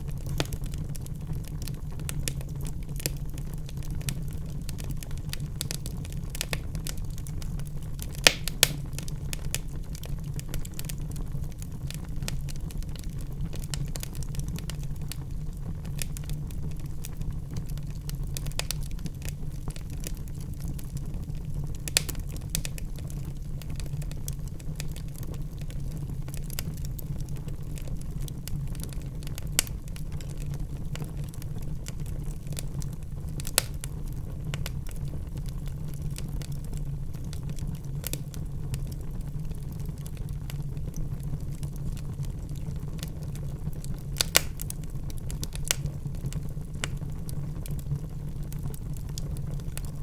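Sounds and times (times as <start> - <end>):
sharp cracks of fire: 0.0 - 50.0
wood fire crackling: 0.0 - 50.0.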